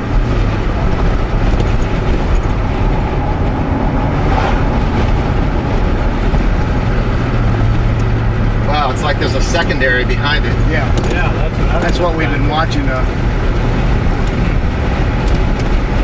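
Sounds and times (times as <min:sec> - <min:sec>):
road and engine noise in cabin: 0:00.0 - 0:16.0.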